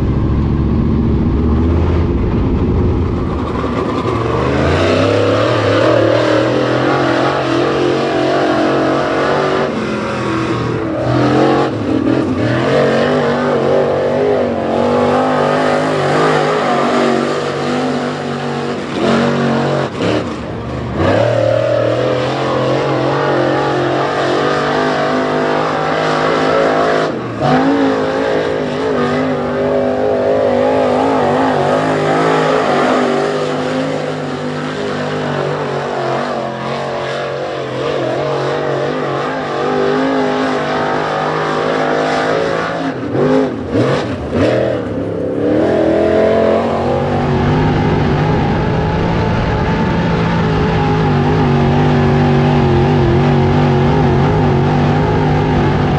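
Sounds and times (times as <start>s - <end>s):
race car engine accelerating: 0.0s - 55.9s.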